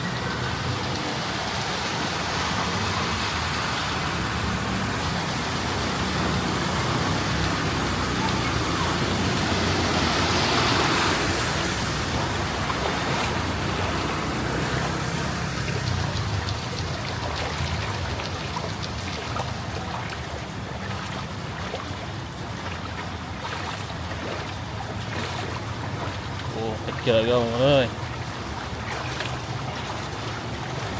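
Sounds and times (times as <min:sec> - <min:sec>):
floodwater sloshing and splashing: 0:00.0 - 0:30.9.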